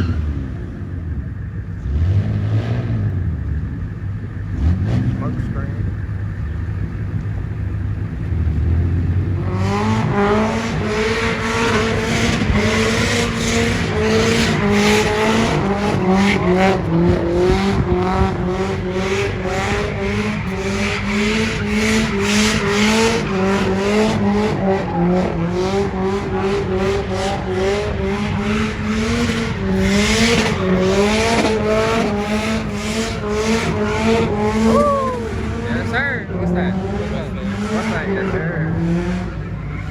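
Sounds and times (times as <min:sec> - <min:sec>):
car engine revving: 0:00.0 - 0:39.9
spinning tyres squealing: 0:00.0 - 0:39.9.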